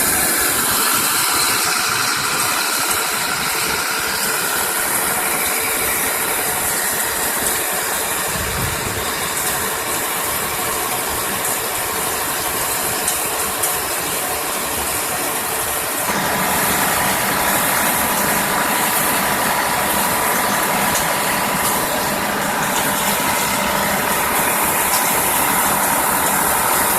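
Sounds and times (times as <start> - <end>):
machinery noise with engine hum: 0.0 - 26.9.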